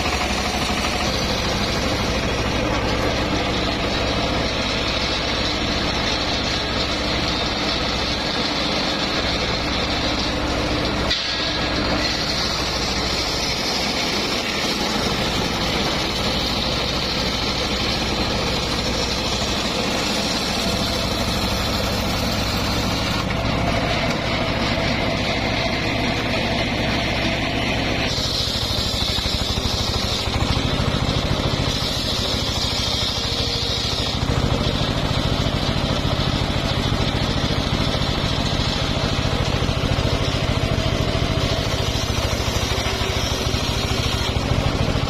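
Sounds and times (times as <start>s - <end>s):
saw blade whining: 0.0s - 45.0s
sawmill engine drone: 0.0s - 45.0s.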